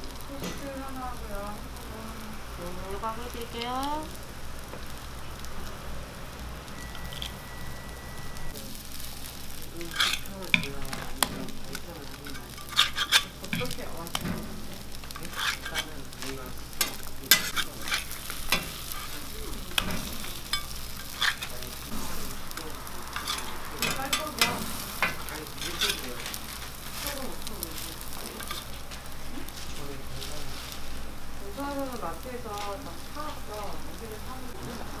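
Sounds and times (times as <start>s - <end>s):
patties sizzling on griddle: 0.0s - 35.0s
metal scraping griddle: 6.3s - 35.0s.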